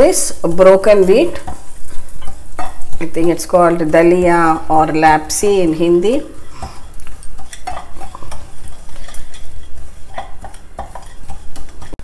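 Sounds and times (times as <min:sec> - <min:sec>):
light sizzle: 0:00.0 - 0:12.0
spatula scraping grains in a pan: 0:00.0 - 0:12.0.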